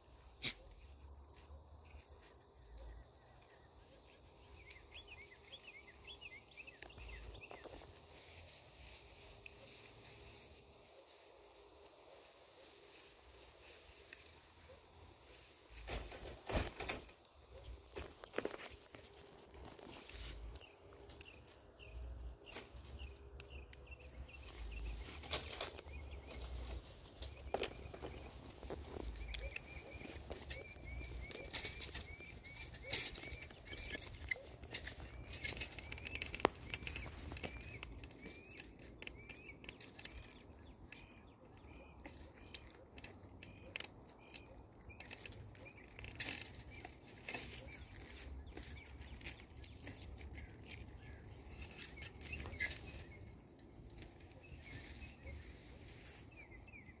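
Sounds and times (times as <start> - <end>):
rustles and clicks: 0.0 - 57.0.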